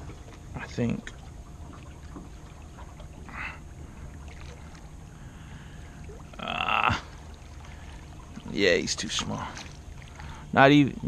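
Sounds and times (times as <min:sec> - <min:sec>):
water moving around boat: 0:00.0 - 0:11.0.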